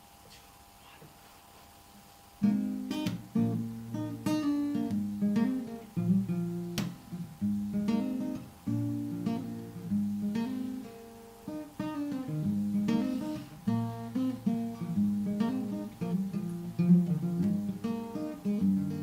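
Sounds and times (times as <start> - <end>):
guitar strumming chords: 2.4 - 19.0.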